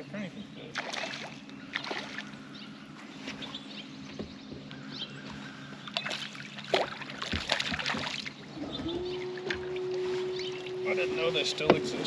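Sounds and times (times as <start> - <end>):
electric trolling motor humming: 1.2 - 12.0.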